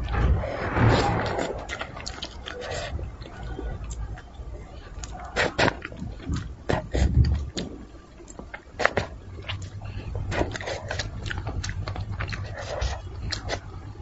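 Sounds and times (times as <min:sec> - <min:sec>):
low steady hum: 0:00.0 - 0:14.0
person chewing with wet smacking: 0:01.3 - 0:14.0.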